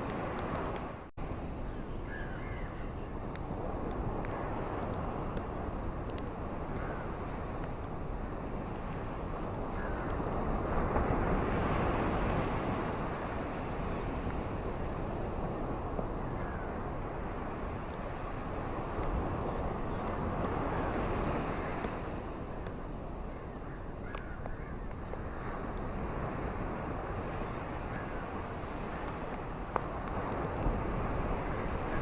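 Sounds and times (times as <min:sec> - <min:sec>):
rain in blustery wind: 0:00.0 - 0:32.0.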